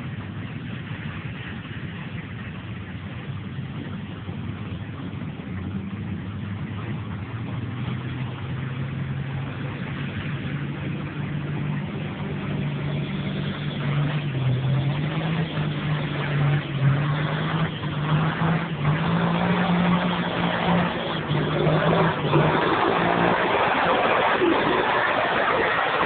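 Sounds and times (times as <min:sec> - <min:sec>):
tractor engine under full load: 0:00.0 - 0:26.0.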